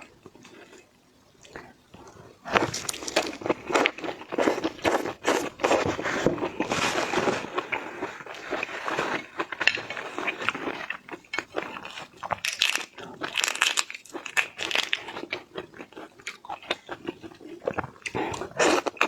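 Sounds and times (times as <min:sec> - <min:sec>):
shellfish cracking and crunching: 0:02.5 - 0:08.6, 0:09.2 - 0:19.0.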